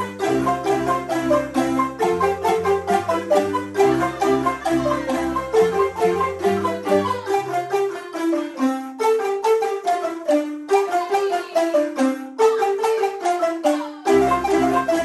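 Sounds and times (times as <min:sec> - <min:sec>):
marimba ensemble playing: 0:00.0 - 0:15.0.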